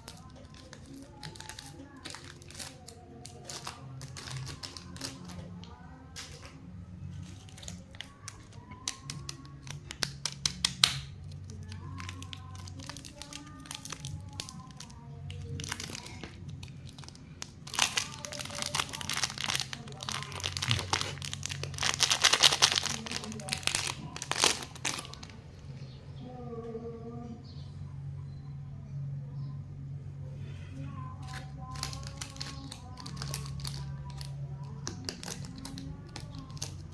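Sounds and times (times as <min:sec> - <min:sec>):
plastic wrappers crinkling: 0:00.0 - 0:25.4, 0:31.2 - 0:36.9.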